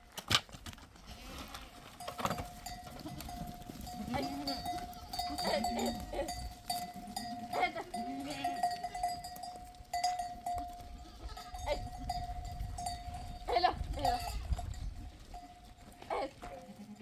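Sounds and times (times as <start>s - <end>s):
livestock bells clanking: 1.9s - 17.0s
animals bleating: 2.5s - 17.0s.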